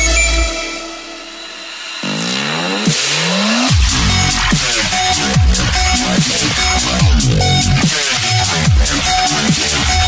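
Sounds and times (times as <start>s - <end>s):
electronic music with bass sweeps: 0.0s - 10.0s.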